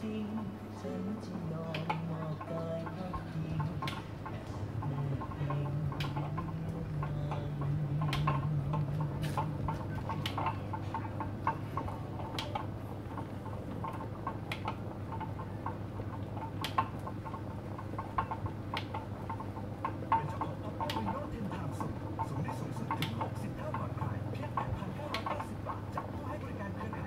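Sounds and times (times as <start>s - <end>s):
potter's wheel humming: 0.0s - 27.0s
clay clicks and ticks: 1.5s - 27.0s.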